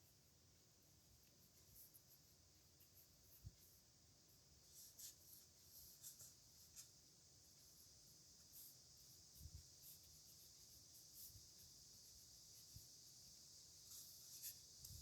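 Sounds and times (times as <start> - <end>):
pen nib scratching on paper: 1.2 - 15.0.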